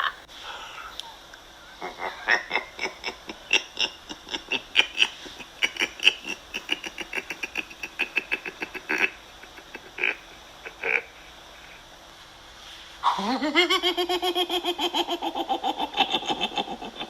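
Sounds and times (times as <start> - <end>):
demonic laughter: 0.0 - 0.3, 1.7 - 11.8, 13.0 - 17.0.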